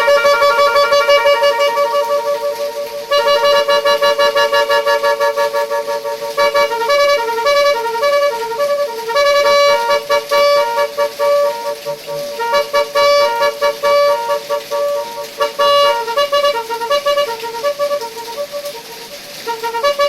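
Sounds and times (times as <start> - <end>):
multi-tune horn melody: 0.0 - 20.0.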